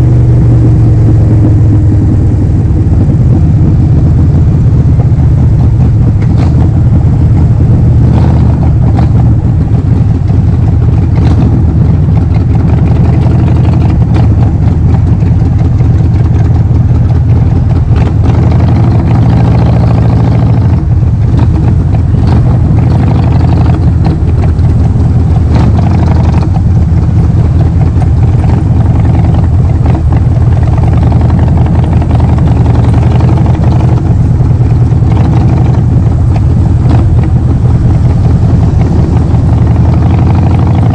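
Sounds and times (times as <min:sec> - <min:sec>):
motorcycle engine exhaust note: 0:00.0 - 0:40.9.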